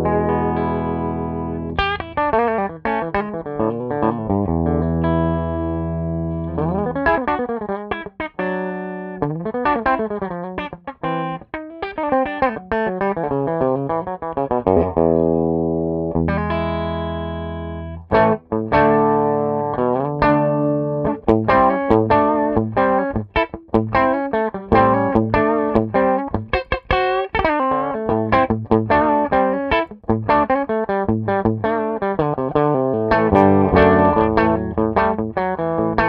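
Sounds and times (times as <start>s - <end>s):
clean electric guitar: 0.0s - 36.0s.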